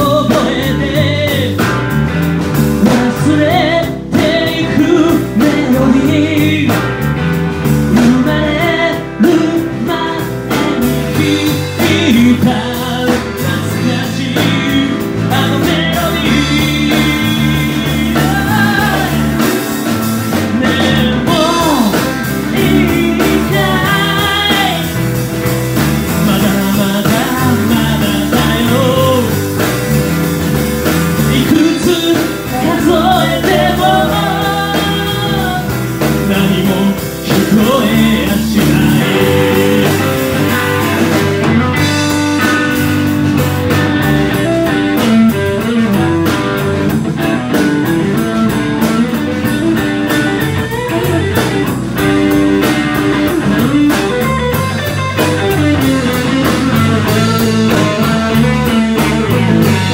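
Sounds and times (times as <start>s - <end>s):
bass guitar: 0.0s - 59.9s
drums: 0.0s - 59.9s
electric guitar: 0.0s - 59.9s
lead vocal singing: 0.0s - 59.9s.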